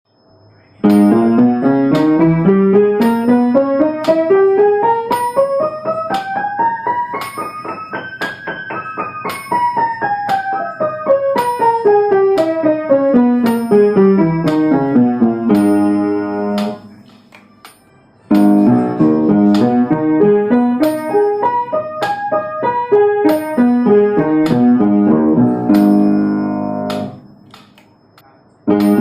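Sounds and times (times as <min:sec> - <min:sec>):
piano broken-chord exercise: 0:00.8 - 0:29.0.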